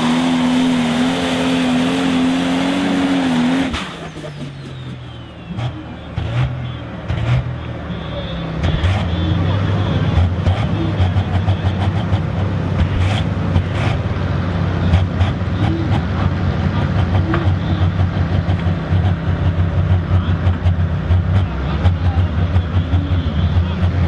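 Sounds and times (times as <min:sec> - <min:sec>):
diesel engine rumbling: 0:00.0 - 0:24.0.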